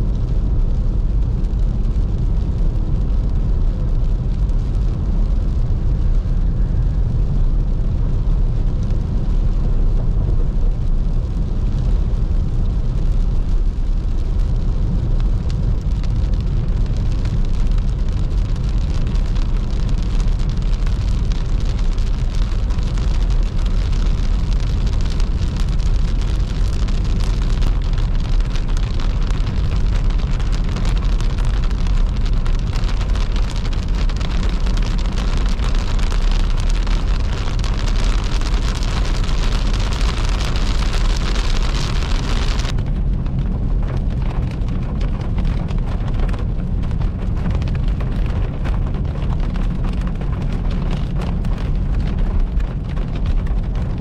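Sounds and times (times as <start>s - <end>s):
car road rumble: 0.0s - 54.0s
hiss of rain and wet tyres: 0.0s - 54.0s
raindrops ticking on windscreen: 0.0s - 54.0s.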